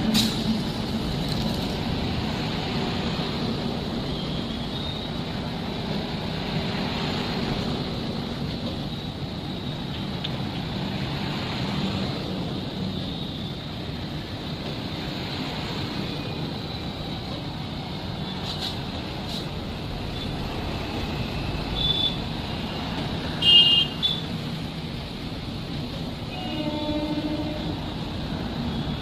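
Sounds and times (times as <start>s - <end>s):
moving train rumble: 0.0s - 29.0s.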